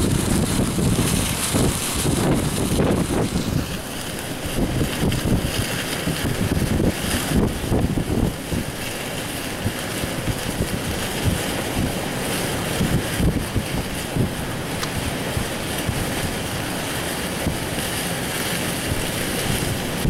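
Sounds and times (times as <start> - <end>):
gusty wind buffeting microphone: 0.0 - 20.0.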